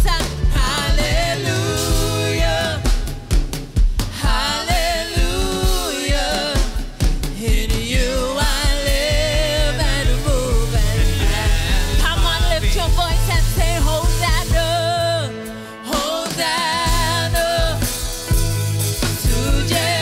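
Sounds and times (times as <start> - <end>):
drum kit and bass: 0.0 - 20.0
people singing worship song: 0.0 - 20.0.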